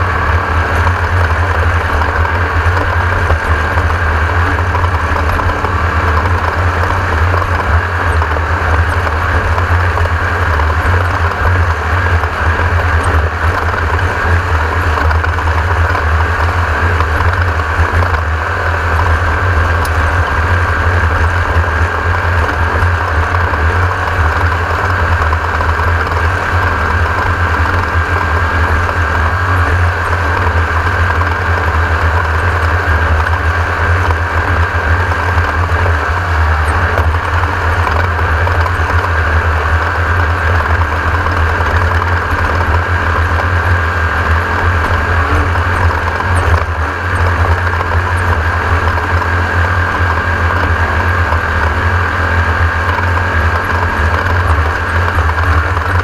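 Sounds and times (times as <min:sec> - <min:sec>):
buggy engine rumbling: 0:00.0 - 0:56.0.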